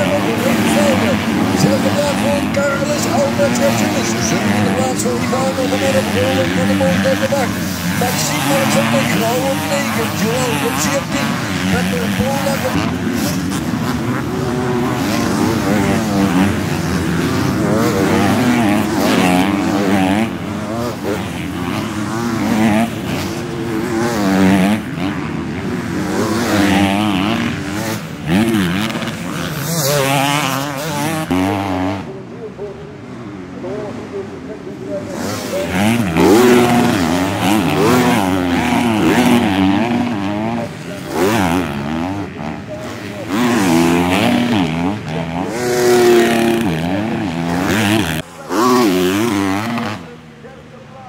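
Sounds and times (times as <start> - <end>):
motocross bikes revving: 0.0 - 51.0.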